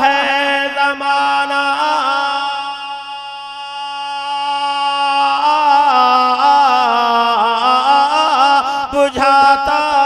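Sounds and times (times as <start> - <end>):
man singing wordless melody: 0.0 - 10.0.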